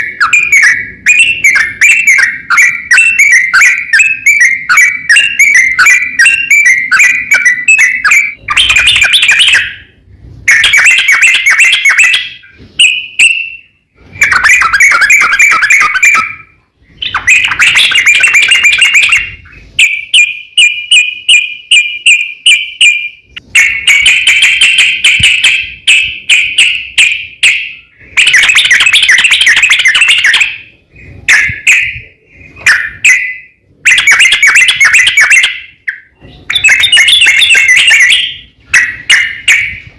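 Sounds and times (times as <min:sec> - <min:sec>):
bird song chattering: 0:00.0 - 0:39.9.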